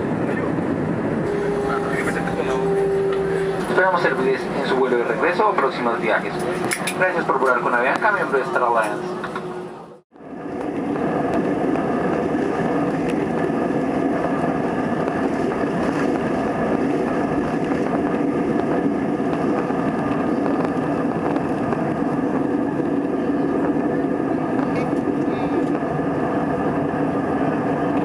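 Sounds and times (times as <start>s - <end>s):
jet engines roaring in cabin: 0.0s - 28.0s.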